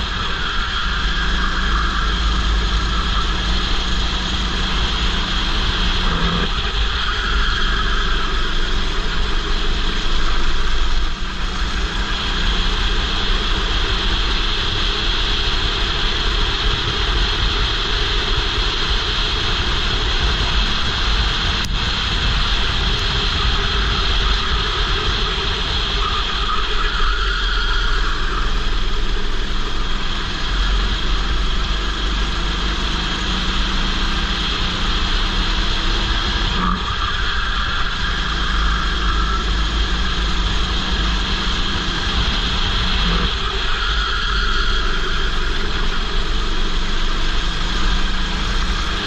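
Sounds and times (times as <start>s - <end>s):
racing kart engine: 0.0s - 49.0s
wind rushing on camera: 0.0s - 49.0s.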